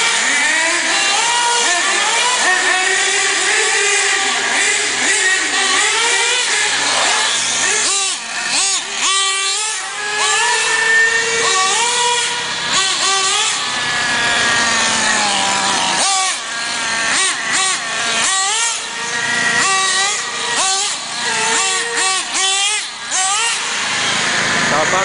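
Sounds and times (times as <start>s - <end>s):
small nitro engine whining: 0.0s - 25.0s.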